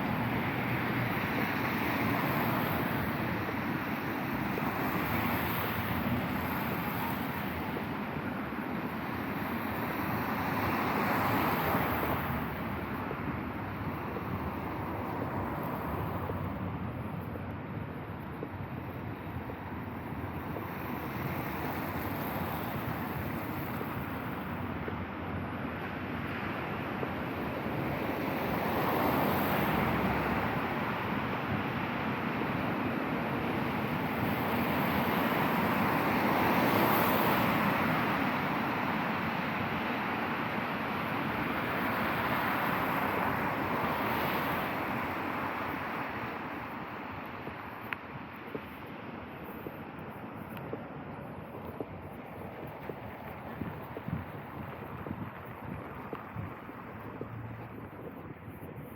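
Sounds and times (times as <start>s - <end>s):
tyres hissing on wet road: 0.0s - 16.8s, 19.8s - 58.8s.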